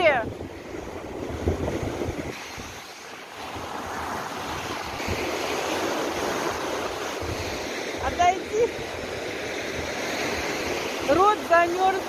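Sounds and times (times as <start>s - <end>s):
waves breaking on shore: 0.0s - 12.0s
wind rumbling on microphone: 0.0s - 12.0s.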